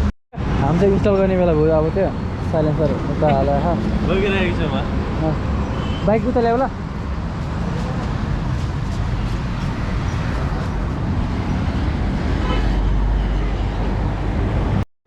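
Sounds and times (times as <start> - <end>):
road traffic rumble: 0.0 - 14.8.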